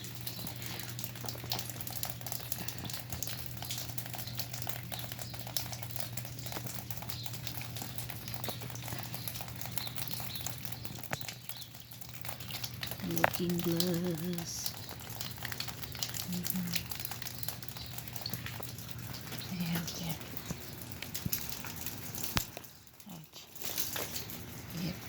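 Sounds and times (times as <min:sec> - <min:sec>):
freezing rain pattering on ice: 0:00.0 - 0:25.0.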